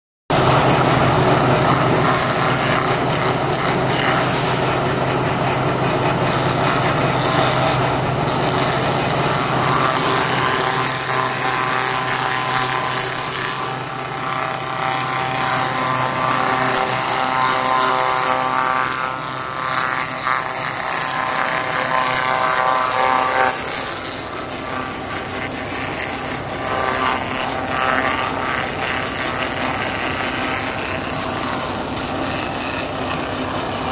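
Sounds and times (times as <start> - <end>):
high-pitched machine whine: 0.3 - 33.9
wood crusher machine drone: 0.3 - 33.9.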